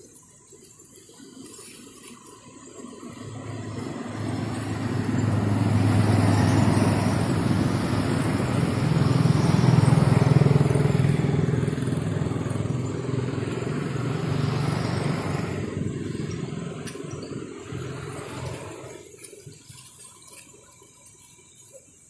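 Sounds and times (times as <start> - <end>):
vehicle engine running: 2.1 - 22.0.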